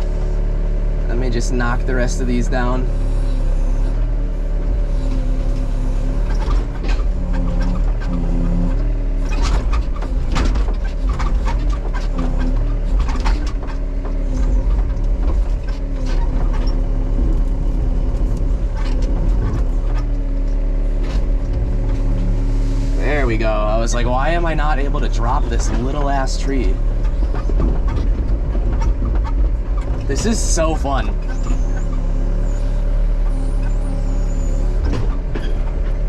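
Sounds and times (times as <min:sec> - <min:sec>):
excavator diesel engine under load: 0:00.0 - 0:36.0.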